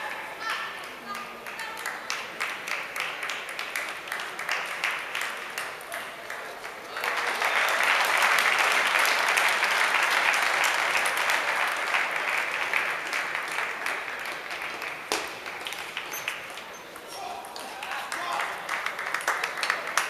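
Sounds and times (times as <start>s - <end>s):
spectators applauding: 1.2s - 20.0s.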